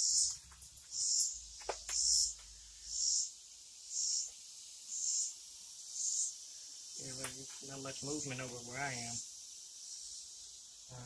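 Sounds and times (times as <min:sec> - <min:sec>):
insect buzzing: 0:00.0 - 0:11.0.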